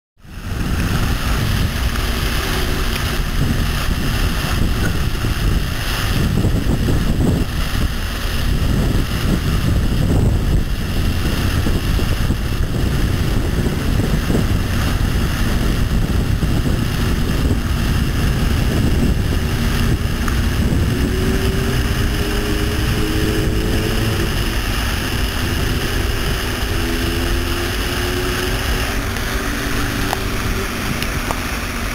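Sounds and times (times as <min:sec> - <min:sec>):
fountain water splashing: 0:00.2 - 0:31.9.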